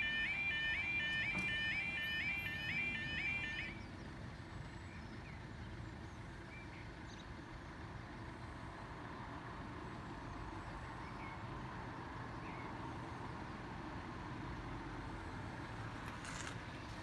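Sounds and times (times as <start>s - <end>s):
diesel train rumble: 0.0s - 17.0s.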